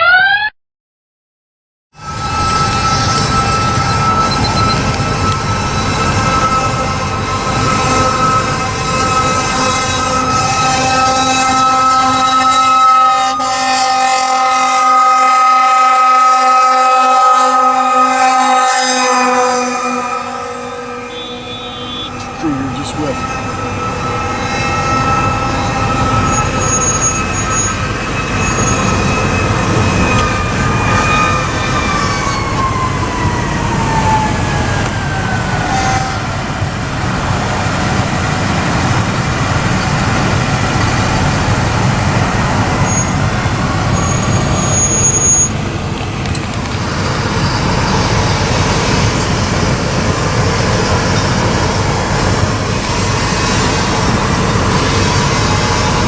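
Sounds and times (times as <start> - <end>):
mechanical siren winding down: 0.0 - 0.5, 2.0 - 12.9, 18.4 - 56.0
vehicle engines and road noise: 2.0 - 13.0, 18.4 - 56.0.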